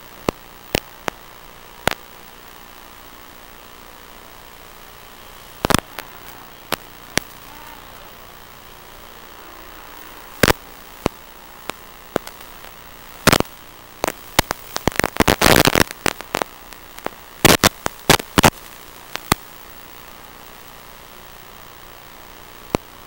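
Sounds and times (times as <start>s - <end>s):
sharp crackles and pops: 0.0s - 23.0s
static hiss: 0.0s - 23.0s.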